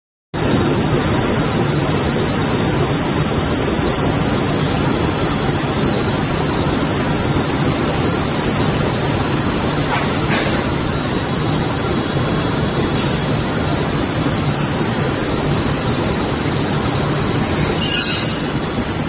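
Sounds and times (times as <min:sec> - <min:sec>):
high steady machine whine: 0:00.4 - 0:19.0
textile mill machinery din: 0:00.4 - 0:19.0.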